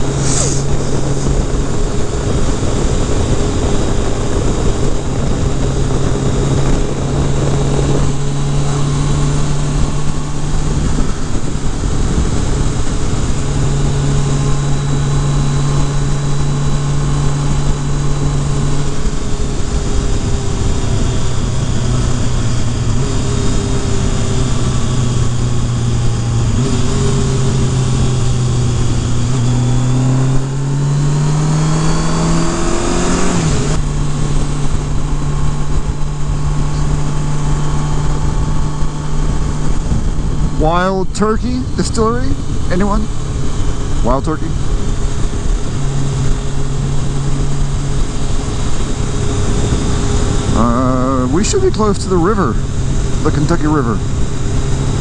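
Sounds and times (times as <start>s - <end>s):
motorcycle engine cruising: 0.0s - 55.0s
wind and road noise: 0.0s - 55.0s.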